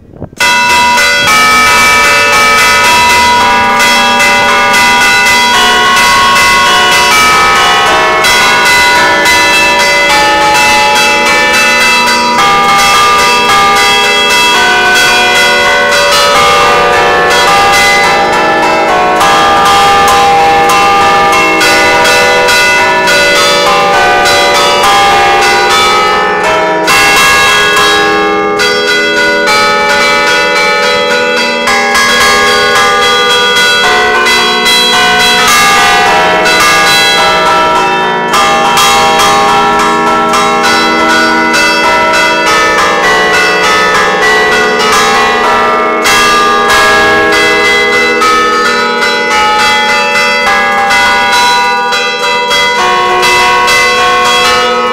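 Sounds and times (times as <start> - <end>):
church bells ringing a peal: 0.0 - 54.9.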